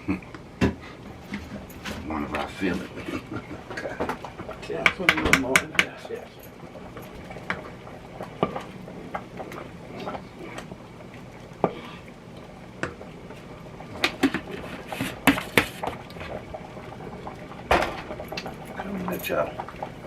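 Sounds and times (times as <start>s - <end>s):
soup bubbling and plopping: 0.1s - 20.0s.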